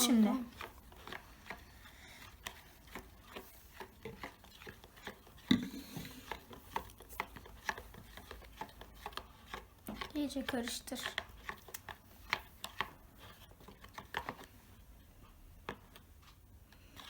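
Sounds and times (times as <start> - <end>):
spoon scraping container: 0.0 - 14.4.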